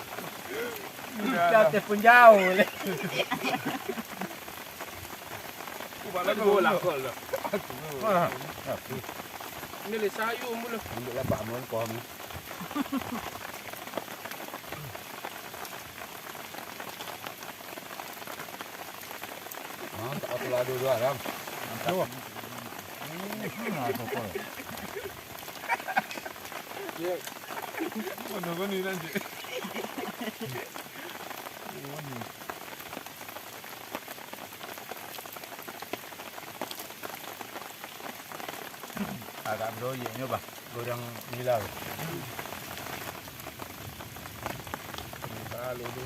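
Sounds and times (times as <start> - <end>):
raindrops ticking: 0.0 - 46.0
steady rain: 0.0 - 46.0.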